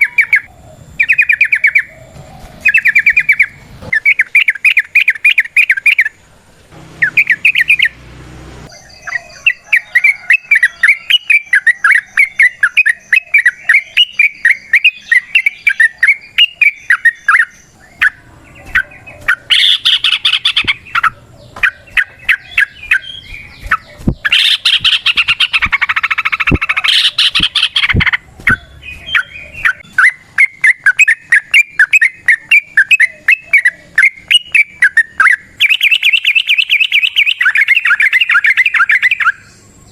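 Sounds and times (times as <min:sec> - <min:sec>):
bulbul singing rapid chirping song: 0:00.0 - 0:39.9.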